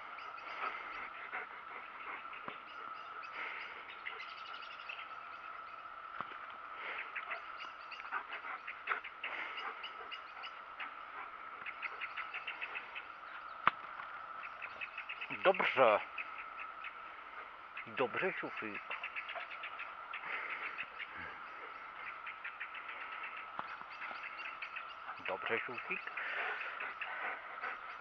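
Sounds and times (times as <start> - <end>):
birds chirping trills: 0.0 - 28.0.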